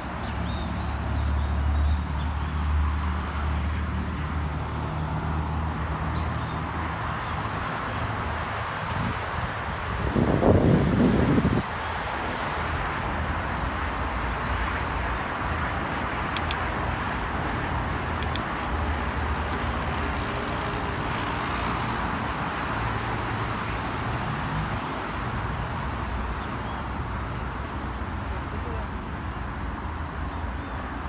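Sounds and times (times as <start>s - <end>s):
road traffic hiss: 0.0s - 31.0s.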